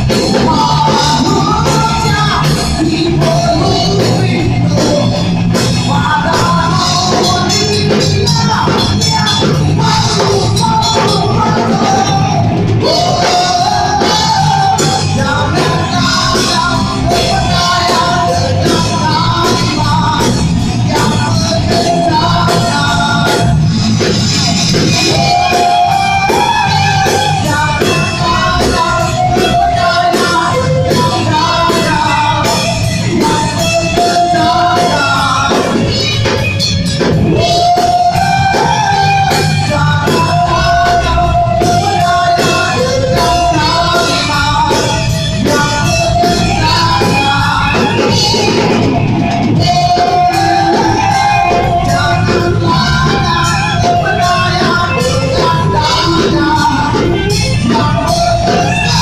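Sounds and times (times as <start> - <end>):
drums: 0.0 - 59.0
electric guitars: 0.0 - 59.0
person singing: 0.0 - 59.0.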